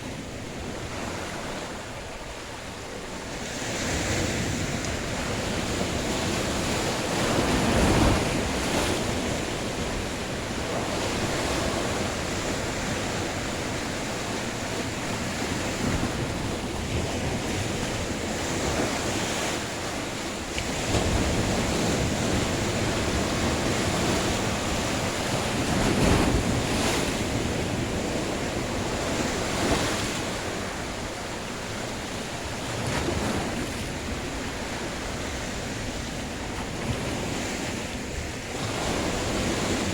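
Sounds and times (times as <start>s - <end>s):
sea waves breaking on shore: 0.0s - 39.9s
wind rumbling on microphone: 0.0s - 39.9s.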